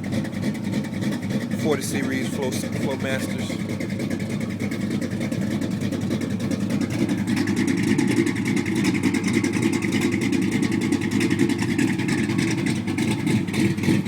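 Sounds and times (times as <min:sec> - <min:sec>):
v-eight engine running: 0:00.0 - 0:14.0.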